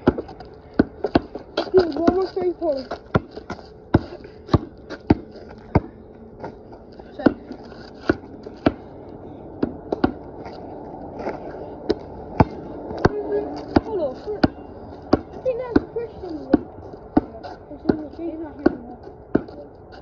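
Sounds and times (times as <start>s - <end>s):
basketball bouncing on concrete: 0.0s - 6.5s, 7.2s - 8.9s, 9.6s - 10.3s, 11.9s - 19.7s.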